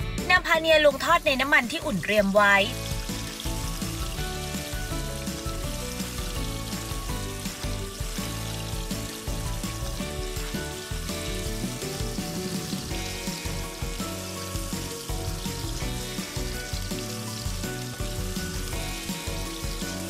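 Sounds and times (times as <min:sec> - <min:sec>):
background music: 0:00.0 - 0:20.0
deep-frying sizzle in hot oil: 0:00.0 - 0:20.0.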